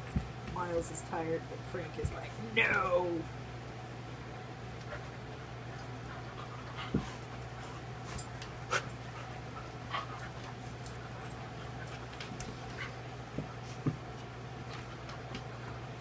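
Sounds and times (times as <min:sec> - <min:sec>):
dogs play-wrestling: 0:00.0 - 0:01.0, 0:03.8 - 0:16.0.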